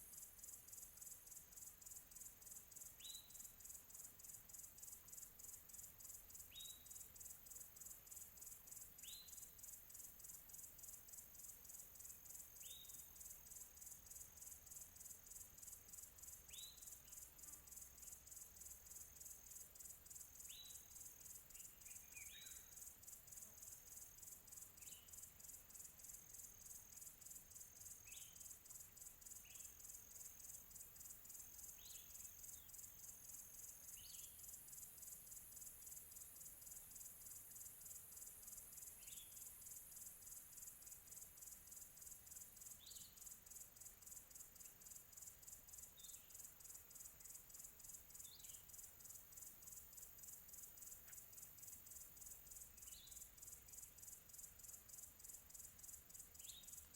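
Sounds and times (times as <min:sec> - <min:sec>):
crickets chirring: 0:00.0 - 0:56.9.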